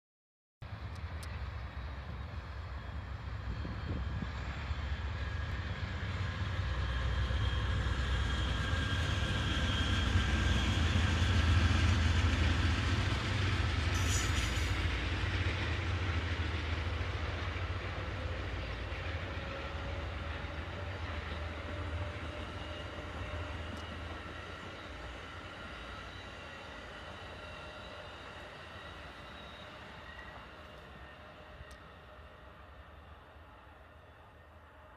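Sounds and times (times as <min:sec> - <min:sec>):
train rumbling over rails: 0:00.6 - 0:34.9.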